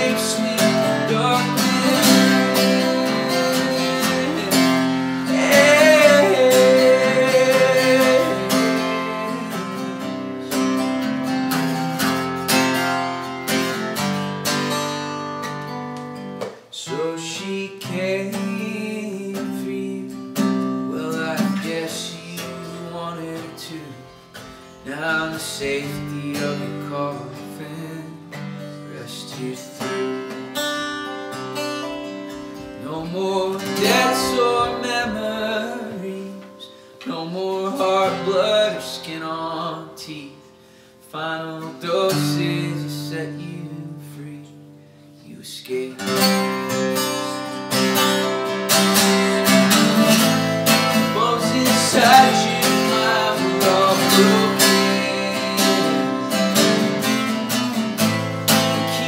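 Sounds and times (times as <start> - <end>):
acoustic guitar strummed and picked: 0.0 - 59.0.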